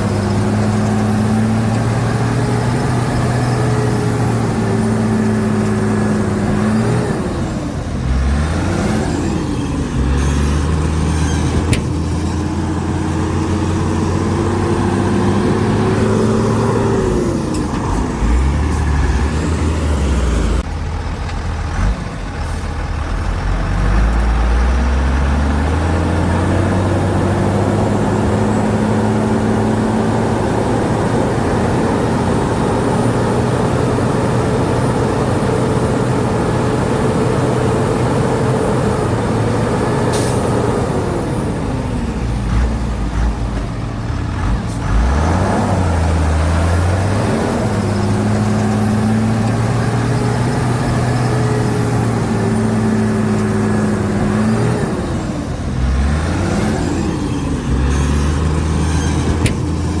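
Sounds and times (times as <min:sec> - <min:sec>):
bulldozer diesel engine: 0:00.0 - 1:00.0.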